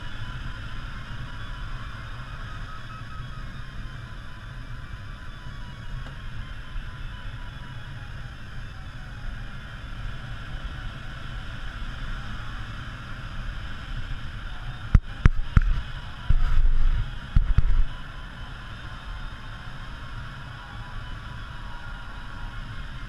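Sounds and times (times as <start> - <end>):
airflow rushing in cockpit: 0.0 - 23.0.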